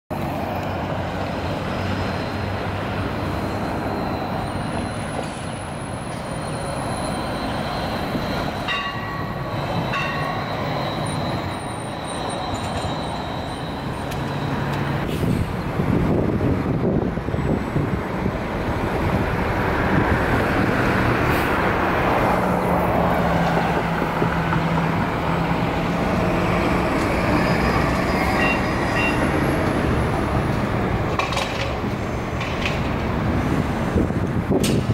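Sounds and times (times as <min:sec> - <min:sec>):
street traffic: 0:00.1 - 0:34.9
trolleybuses rolling past: 0:00.1 - 0:34.9.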